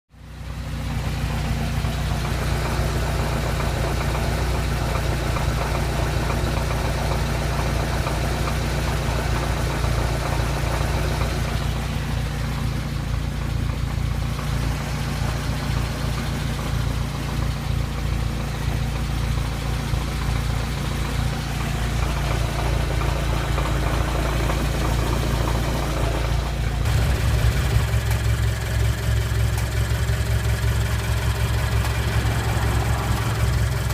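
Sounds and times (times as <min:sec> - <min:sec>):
car engine idling: 0:00.1 - 0:33.9
light engine rattle: 0:00.2 - 0:33.9.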